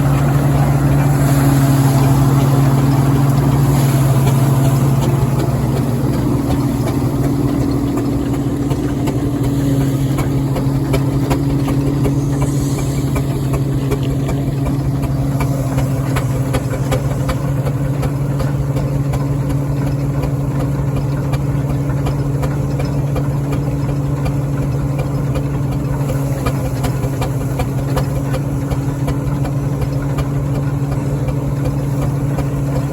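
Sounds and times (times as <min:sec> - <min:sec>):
steam engine humming steadily: 0:00.0 - 0:32.9.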